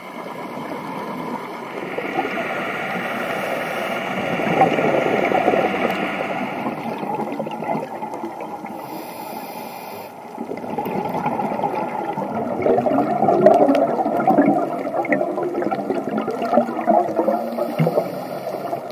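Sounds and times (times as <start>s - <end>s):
underwater bubbles gurgling: 0.0s - 18.9s.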